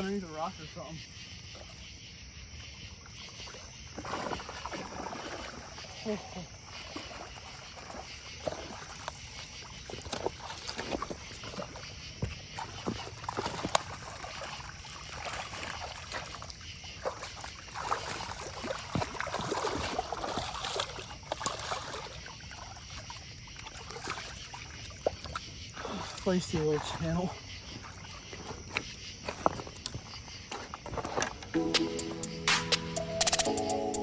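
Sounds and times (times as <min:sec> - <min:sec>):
water splashing: 0:03.1 - 0:31.9.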